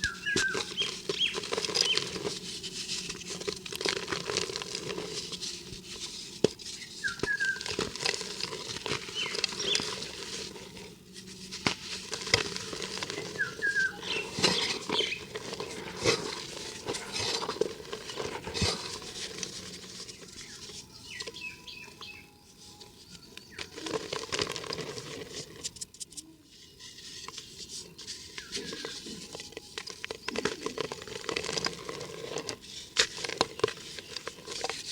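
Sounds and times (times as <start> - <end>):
dry cement chunks crumbling: 0.0 - 5.7, 6.3 - 22.2, 22.9 - 25.7, 28.4 - 34.9.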